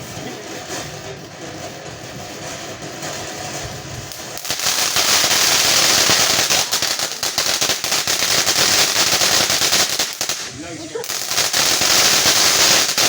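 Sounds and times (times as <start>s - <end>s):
firework crackling pops: 0.0s - 13.0s
firework hissing spray: 0.0s - 13.0s.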